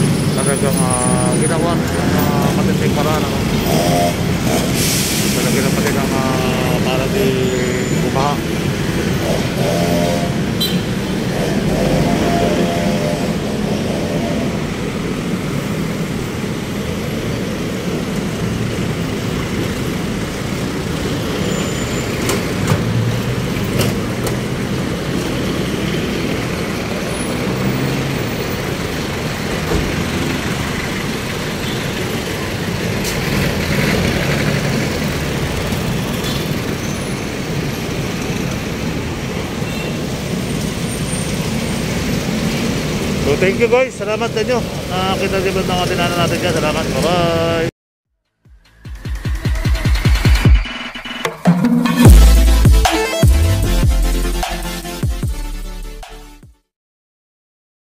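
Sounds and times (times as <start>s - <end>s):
road traffic passing: 0.0s - 47.7s.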